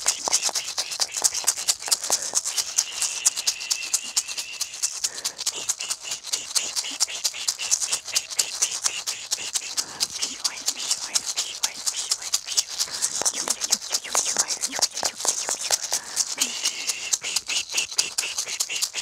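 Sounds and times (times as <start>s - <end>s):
maracas rattling: 0.0s - 19.0s.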